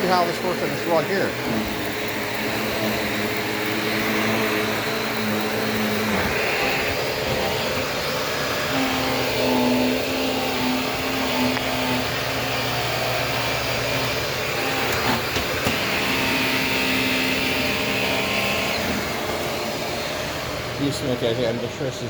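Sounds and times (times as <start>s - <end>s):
vacuum cleaner on rug: 0.0s - 22.0s.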